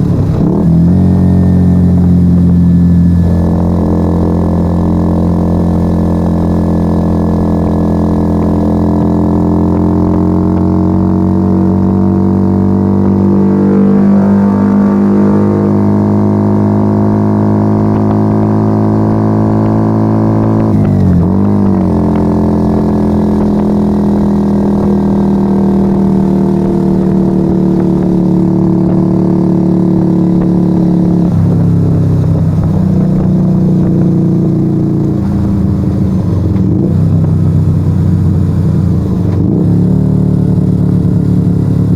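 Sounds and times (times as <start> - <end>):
motorcycle engine through loud exhaust: 0.0 - 41.9.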